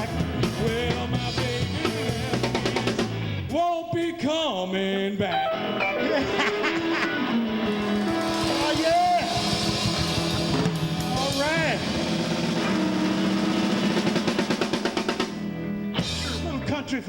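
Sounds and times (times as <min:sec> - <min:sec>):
drum kit: 0:00.0 - 0:03.6, 0:06.5 - 0:16.8
bass: 0:00.0 - 0:17.0.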